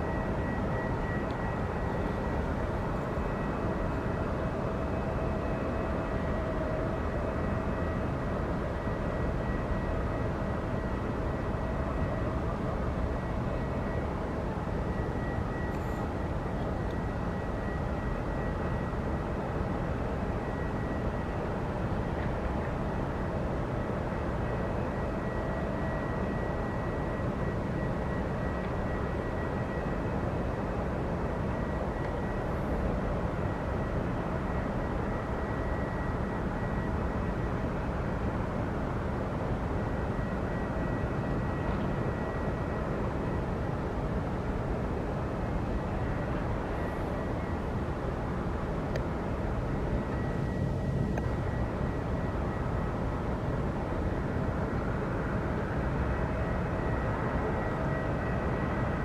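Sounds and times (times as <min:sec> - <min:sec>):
aircraft turbine rumble and whine: 0:00.0 - 0:59.0.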